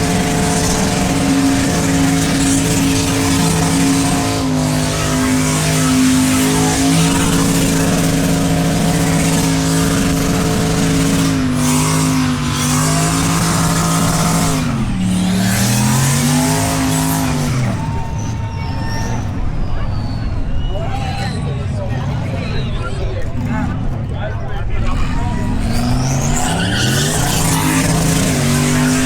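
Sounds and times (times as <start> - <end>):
engine revving high: 0.0 - 19.6, 24.7 - 29.0
spinning tyres hissing: 0.0 - 20.2, 24.9 - 29.0.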